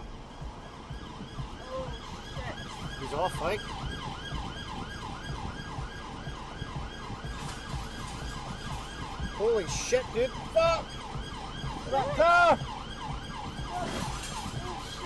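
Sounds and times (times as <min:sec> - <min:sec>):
car engine and tyres rumbling: 0:00.0 - 0:15.0
police siren yelping: 0:00.0 - 0:15.0.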